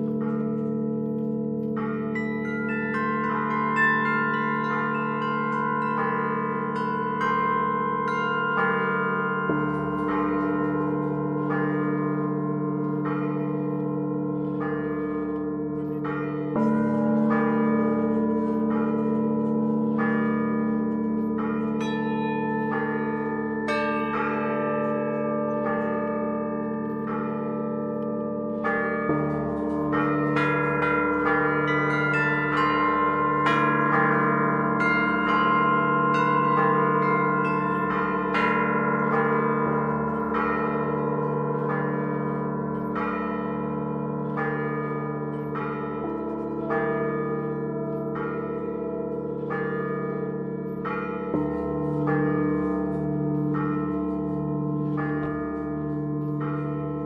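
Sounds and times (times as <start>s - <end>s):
large bells ringing: 0.0s - 57.0s.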